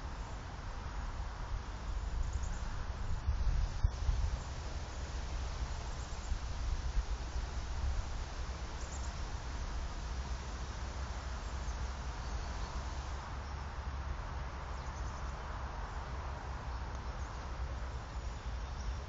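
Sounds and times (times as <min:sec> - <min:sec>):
even hiss: 0:00.0 - 0:19.0.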